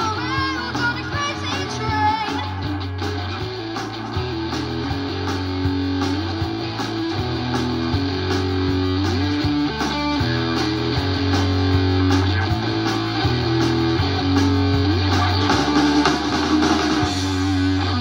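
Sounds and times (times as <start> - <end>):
bass guitar notes: 0.0 - 18.0
drums keeping steady beat: 0.0 - 18.0
electric guitar riff: 0.0 - 18.0.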